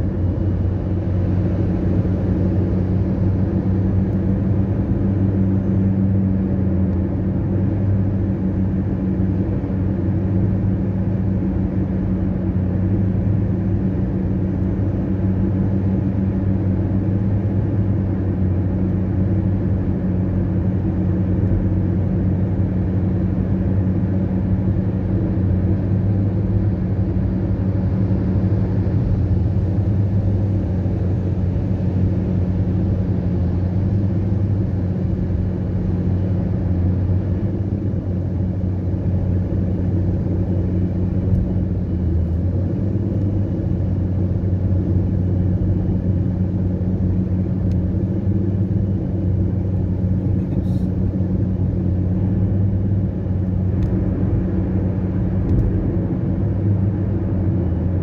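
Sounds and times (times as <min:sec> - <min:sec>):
car cabin road noise: 0:00.0 - 0:58.0.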